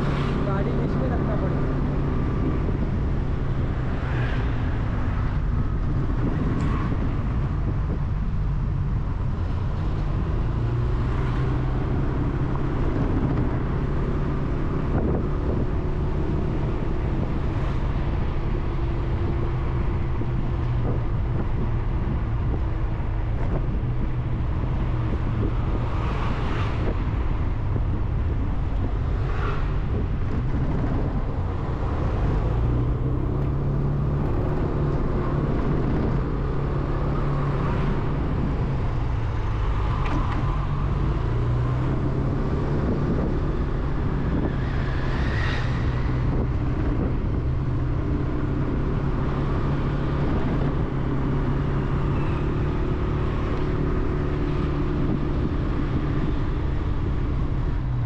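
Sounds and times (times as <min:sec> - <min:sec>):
road rumble: 0:00.0 - 0:58.0
wind: 0:00.0 - 0:58.0.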